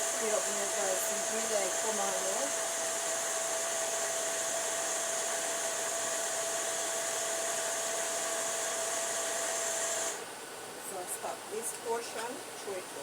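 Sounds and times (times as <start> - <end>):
juicer motor whining: 0.0 - 10.6.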